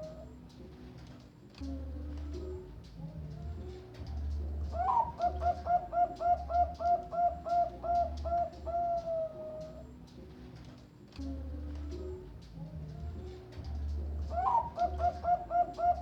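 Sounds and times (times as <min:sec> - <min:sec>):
dove cooing: 0:00.0 - 0:01.0, 0:01.6 - 0:10.6, 0:11.2 - 0:16.0.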